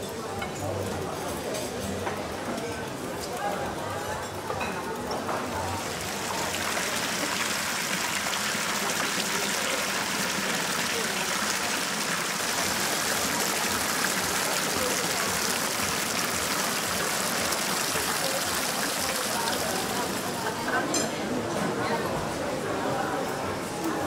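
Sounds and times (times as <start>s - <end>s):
fountain water splashing: 0.4s - 20.9s.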